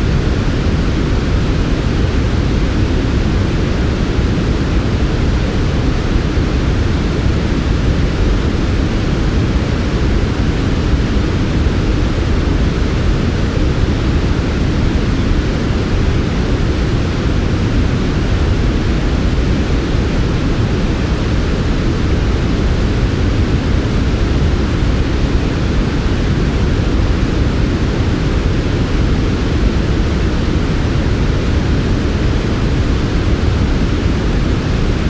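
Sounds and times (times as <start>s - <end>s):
white noise: 0.0s - 35.0s.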